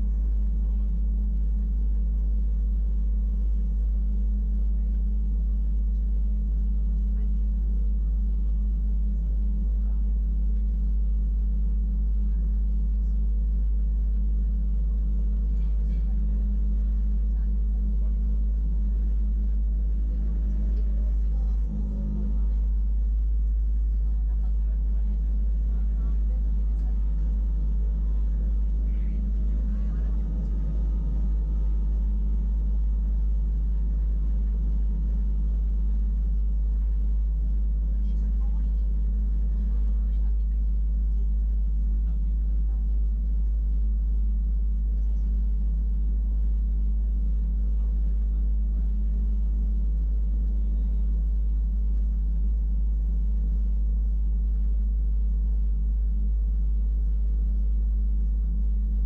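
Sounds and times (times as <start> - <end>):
electric train low rumble: 0.0 - 59.0.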